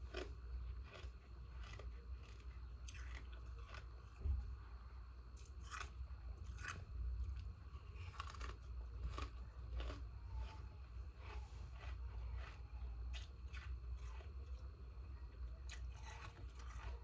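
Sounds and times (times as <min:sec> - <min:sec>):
ice being chewed: 0:00.0 - 0:04.5, 0:05.3 - 0:17.0
low steady hum: 0:00.0 - 0:17.0.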